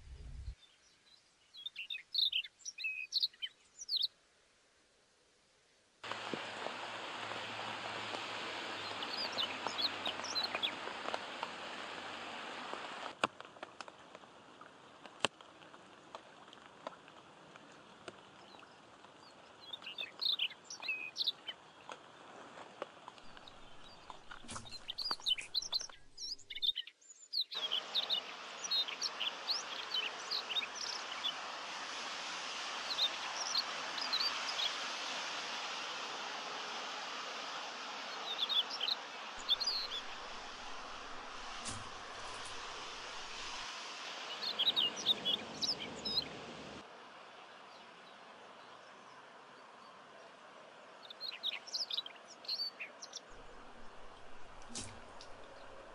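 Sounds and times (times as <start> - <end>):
small birds chirping: 0.0 - 4.2, 6.0 - 12.9, 14.0 - 46.8, 50.9 - 55.9
rain on lake surface: 6.0 - 26.6, 27.6 - 55.9.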